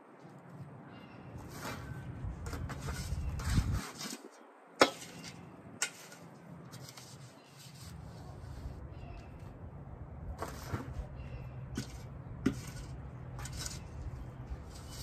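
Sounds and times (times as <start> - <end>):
shovel scraping through soil: 1.4 - 8.8, 10.3 - 15.0.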